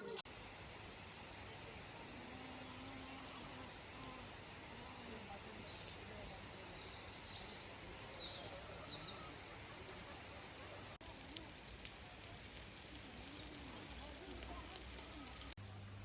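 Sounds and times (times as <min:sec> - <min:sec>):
steady background hiss: 0:00.1 - 0:16.0
small birds chirping: 0:01.2 - 0:15.6.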